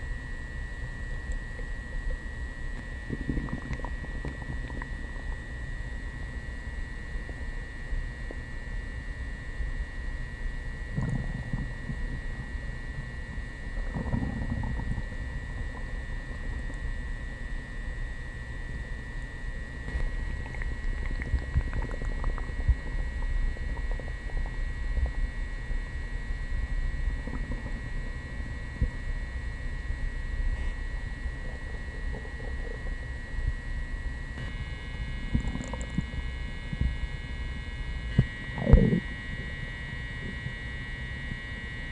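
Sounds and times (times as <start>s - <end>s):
stomach gurgling and rumbling: 0.0s - 41.9s.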